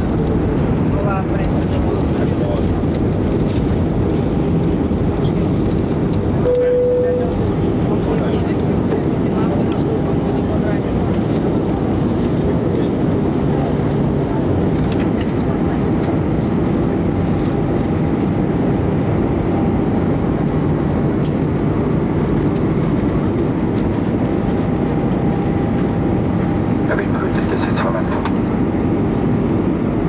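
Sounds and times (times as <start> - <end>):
jet engine cabin noise: 0.0 - 30.0.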